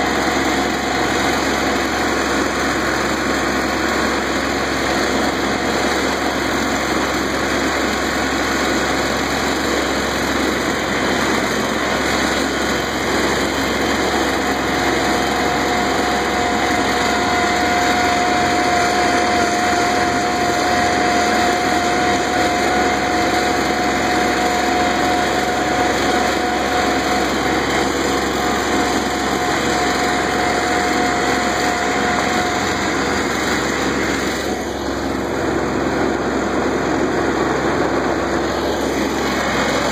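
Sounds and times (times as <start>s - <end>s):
snowblower throwing snow: 0.0s - 39.9s
steady whine: 0.0s - 39.9s
tractor diesel engine running: 0.0s - 39.9s.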